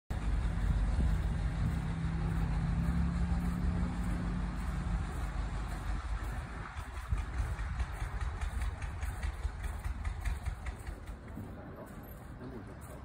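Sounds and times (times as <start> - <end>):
diesel locomotive idling: 0.1 - 13.0.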